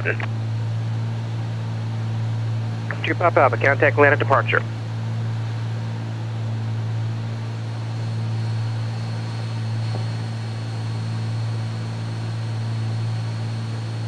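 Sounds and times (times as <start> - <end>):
twin propeller aircraft engines droning: 0.0 - 14.0.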